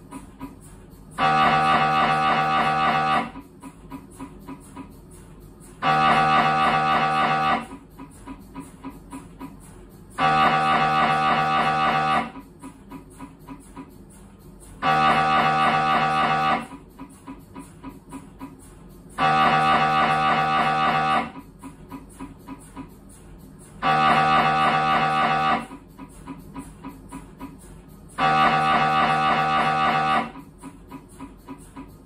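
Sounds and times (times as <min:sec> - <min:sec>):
mri scanner pitched buzz: 0:00.0 - 0:32.0
mri scanner rapid ticking: 0:00.0 - 0:32.0.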